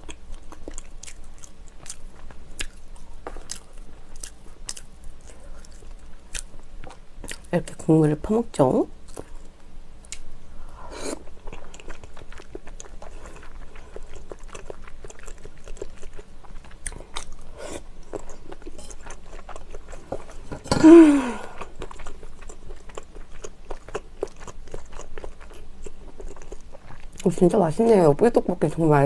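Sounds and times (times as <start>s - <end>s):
wet chewing sounds: 0.0s - 7.5s, 9.0s - 10.3s, 11.1s - 28.0s.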